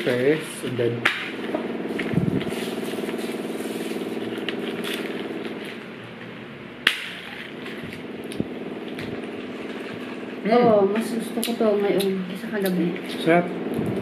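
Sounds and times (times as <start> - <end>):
engine-like hum: 0.0 - 14.0.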